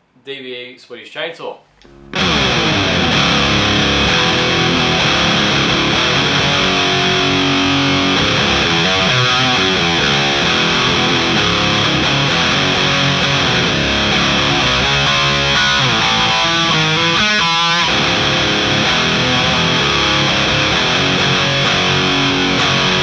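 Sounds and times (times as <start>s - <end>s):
distorted electric guitar: 1.8s - 23.0s.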